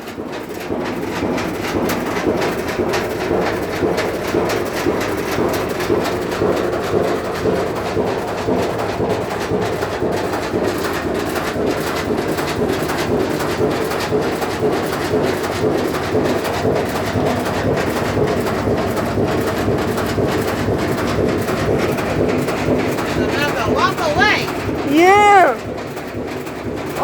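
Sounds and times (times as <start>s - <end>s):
washing machine rattling: 0.0s - 27.0s.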